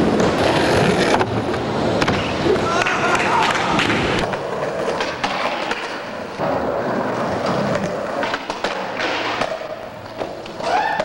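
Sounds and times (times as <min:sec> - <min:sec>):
skateboard clacking on ground: 0:00.0 - 0:11.0
skateboard trucks grinding: 0:00.0 - 0:11.0
skateboard wheels rolling on concrete: 0:00.0 - 0:11.0.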